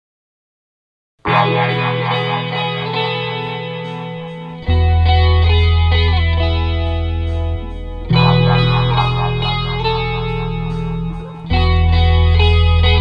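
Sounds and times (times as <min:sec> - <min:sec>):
distorted electric guitar: 0:01.3 - 0:13.0
sustained bass: 0:01.3 - 0:13.0.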